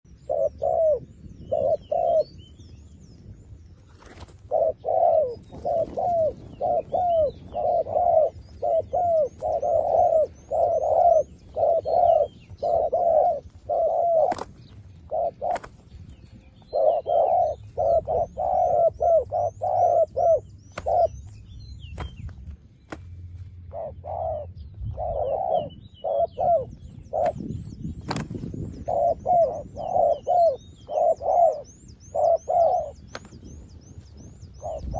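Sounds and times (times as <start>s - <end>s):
doves cooing: 0.1s - 2.4s, 3.9s - 34.9s
high faint chirping: 0.1s - 34.9s.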